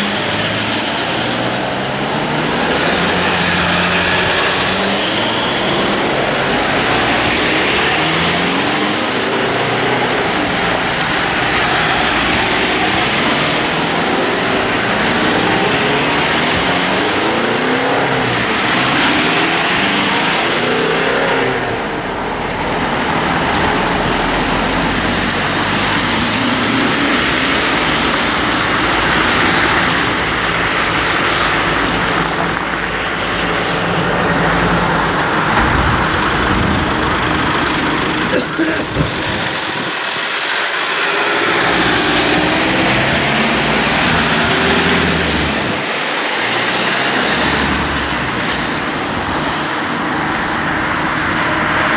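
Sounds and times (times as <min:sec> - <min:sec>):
tyre and road noise: 0:00.0 - 0:51.9
vehicle engines accelerating: 0:00.0 - 0:51.9.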